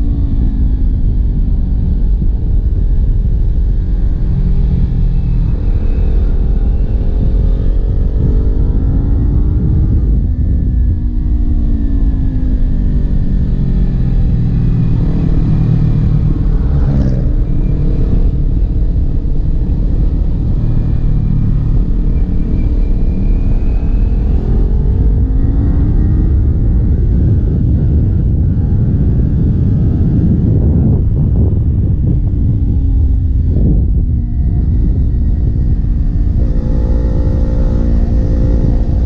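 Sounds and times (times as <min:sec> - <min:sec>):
motorcycle engine running: 0:00.0 - 0:39.0
wind noise: 0:00.0 - 0:39.0.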